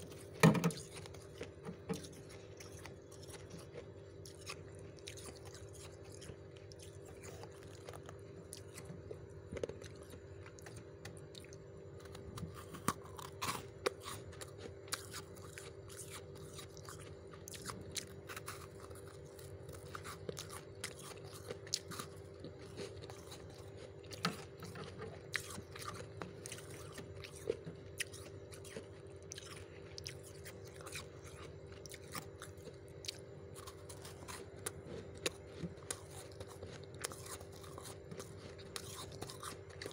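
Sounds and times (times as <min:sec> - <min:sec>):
freezer frost crunching: 0:00.0 - 0:39.9
low steady hum: 0:00.0 - 0:39.9.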